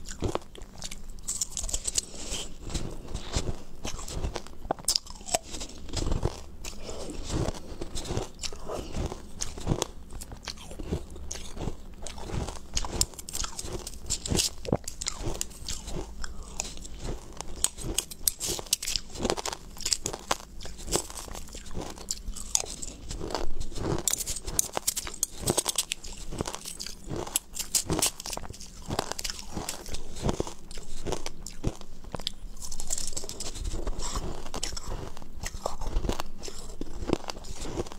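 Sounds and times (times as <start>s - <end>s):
crunching and chewing ice: 0.0s - 37.9s.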